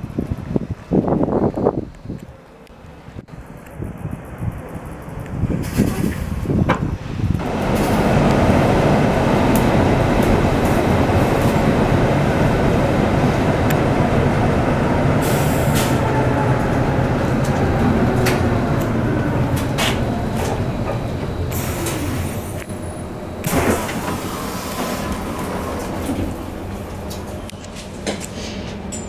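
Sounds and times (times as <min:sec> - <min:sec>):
tram wheels rumbling on rail: 0:00.0 - 0:29.0.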